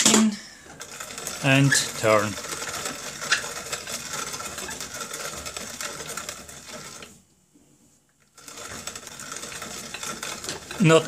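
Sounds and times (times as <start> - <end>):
grain flaker rattling crunch: 0.7 - 7.2, 8.2 - 11.0.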